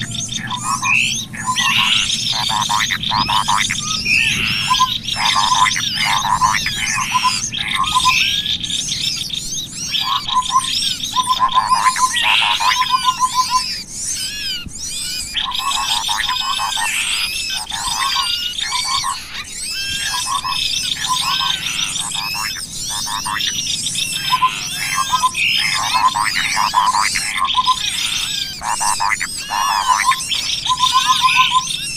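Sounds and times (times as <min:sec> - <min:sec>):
songbirds chorus calling: 0:00.0 - 0:31.9.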